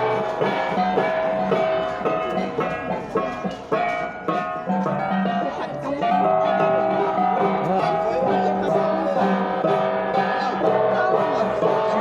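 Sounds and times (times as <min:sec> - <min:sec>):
bronze gongs ringing: 0:00.0 - 0:12.0
voices: 0:00.0 - 0:12.0.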